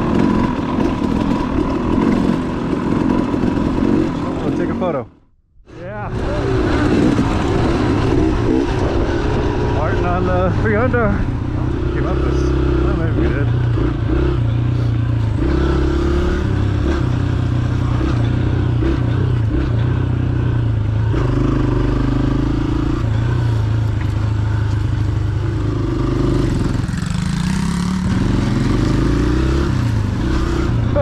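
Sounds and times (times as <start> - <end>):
vehicle engine running and revving: 0.0 - 5.0, 5.7 - 31.0.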